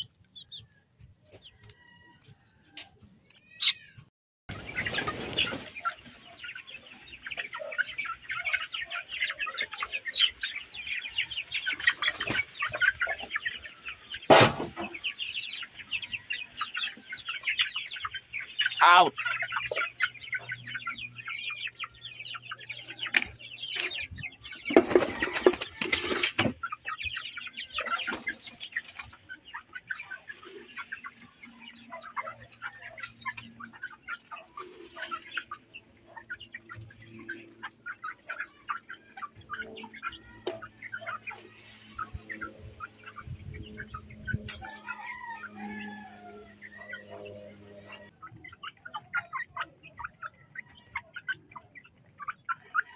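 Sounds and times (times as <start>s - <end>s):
hens clucking: 0.0s - 52.9s.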